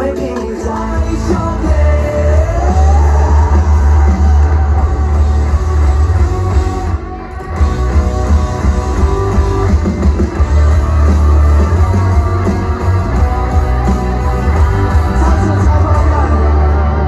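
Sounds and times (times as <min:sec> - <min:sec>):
heavy bass: 0:00.0 - 0:17.0
live rock band with guitars: 0:00.0 - 0:17.0.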